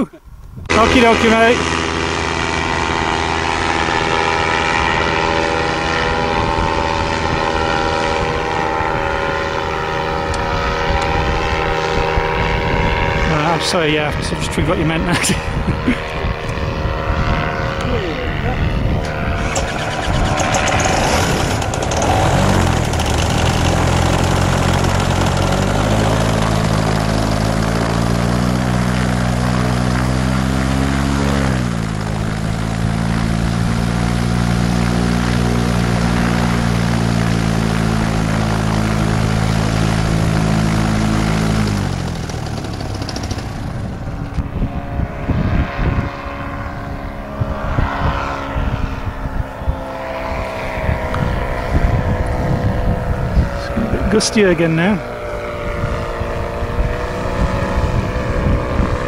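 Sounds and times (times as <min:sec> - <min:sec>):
paramotor engine and propeller: 0:00.0 - 0:59.0
wind buffeting microphone: 0:02.6 - 0:30.2, 0:31.6 - 0:59.0.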